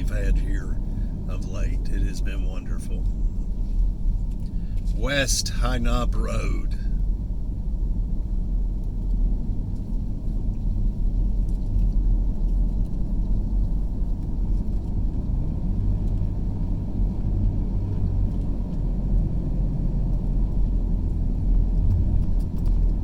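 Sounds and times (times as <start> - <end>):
car driving heard from inside: 0.0 - 23.0.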